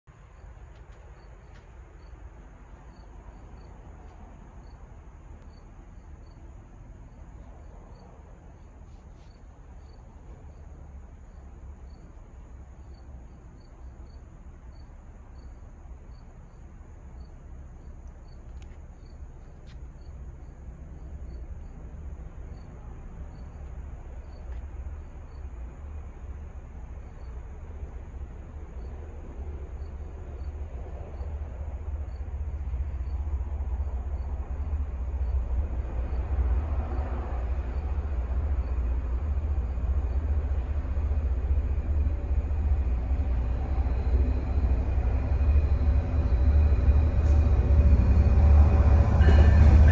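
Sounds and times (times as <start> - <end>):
diesel locomotive rumble: 0.0 - 49.9
crickets chirping: 0.1 - 49.9.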